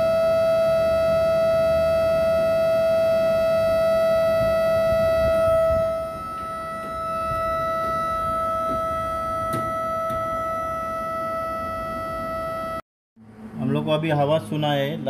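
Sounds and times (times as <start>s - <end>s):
drain pump high-pitched whine: 0.0s - 15.0s.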